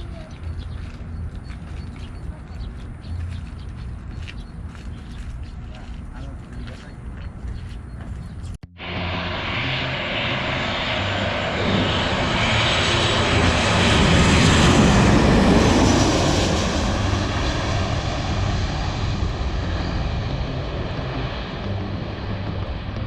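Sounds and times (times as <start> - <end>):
airliner passing overhead: 0.0 - 23.0.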